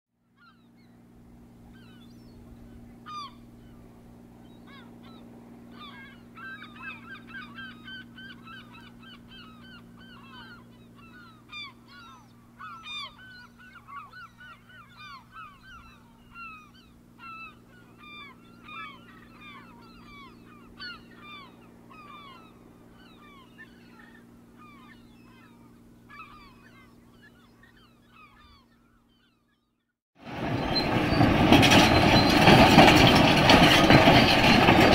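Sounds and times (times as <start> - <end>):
steady low hum: 0.2 - 29.5
flock of birds honking: 1.7 - 3.9, 4.5 - 29.2, 30.3 - 34.9.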